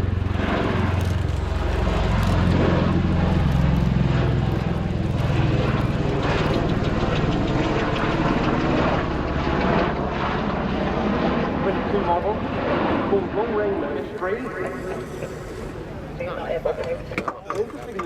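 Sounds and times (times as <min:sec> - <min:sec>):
tiltrotor aircraft droning in flight: 0:00.0 - 0:18.0.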